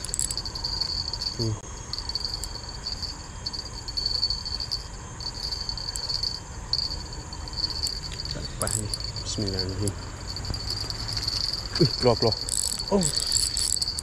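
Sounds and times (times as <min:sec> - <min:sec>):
insects chirring: 0:00.0 - 0:14.0
low rumble: 0:00.0 - 0:14.0.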